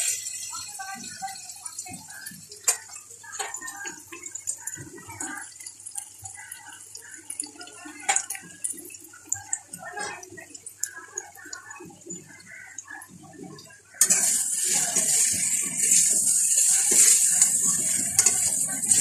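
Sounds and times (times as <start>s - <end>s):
food sizzling in oil: 0.0s - 12.8s, 13.9s - 19.0s.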